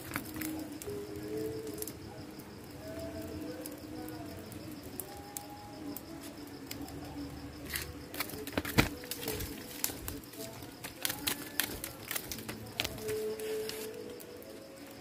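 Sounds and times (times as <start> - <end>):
sharp pops of fire: 0.0 - 2.0, 2.7 - 14.5
fire crackling: 0.0 - 15.0.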